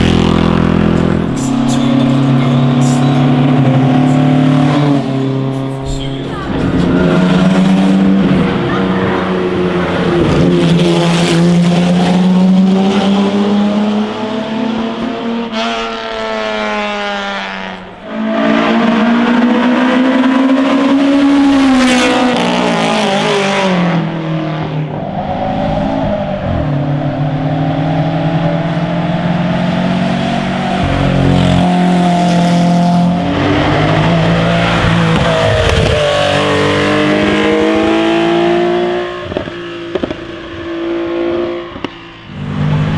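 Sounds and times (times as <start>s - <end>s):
racing car engines accelerating: 0.0s - 42.9s.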